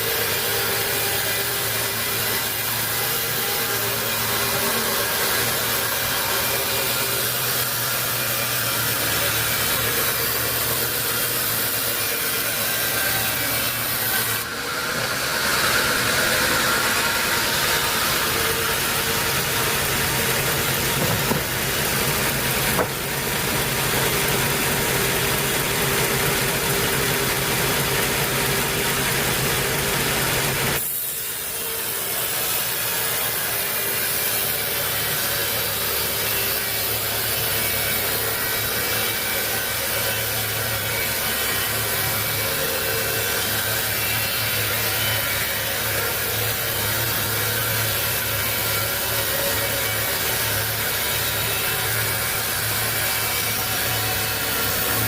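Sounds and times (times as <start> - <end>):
sawmill saw cutting a log: 0.0 - 55.0.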